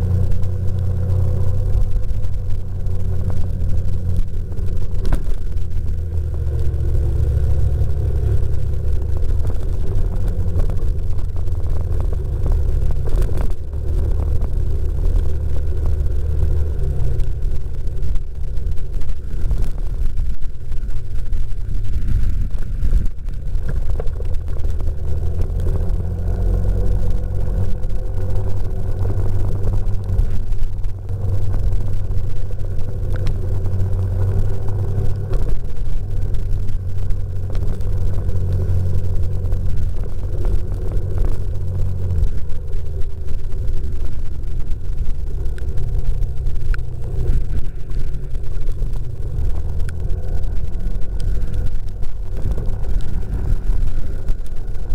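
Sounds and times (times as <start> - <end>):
strong wind gusting on microphone: 0.0 - 54.9.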